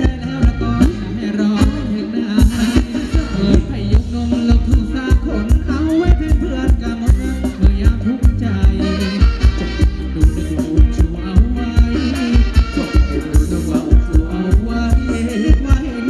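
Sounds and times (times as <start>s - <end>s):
live band dance music: 0.0s - 16.0s
steady drum beat: 0.0s - 16.0s.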